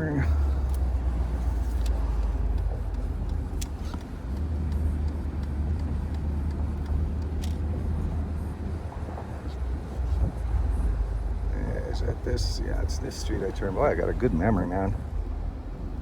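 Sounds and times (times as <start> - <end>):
car engine drone: 0.0 - 16.0
wind and road noise: 0.0 - 16.0.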